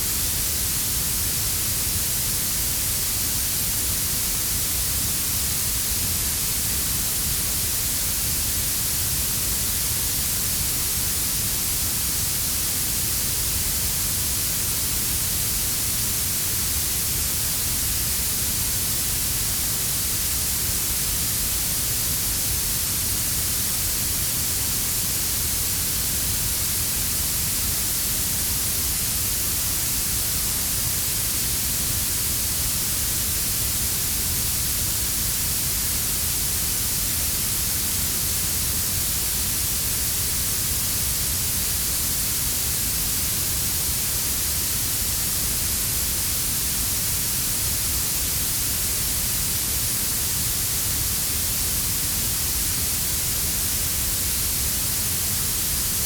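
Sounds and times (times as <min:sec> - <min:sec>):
high-frequency hiss: 0:00.0 - 0:56.0.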